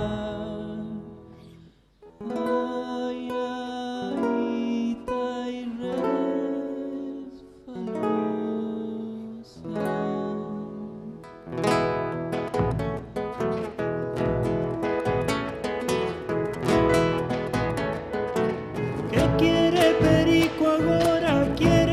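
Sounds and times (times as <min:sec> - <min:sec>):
folk music on acoustic guitar: 0:00.0 - 0:21.9.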